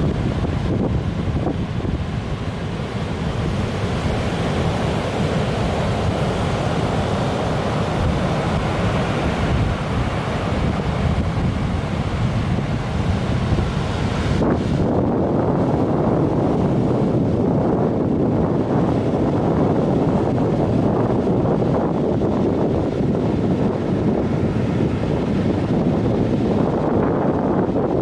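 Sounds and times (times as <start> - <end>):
surf crashing: 0.0 - 28.0
wind buffeting microphone: 0.0 - 28.0.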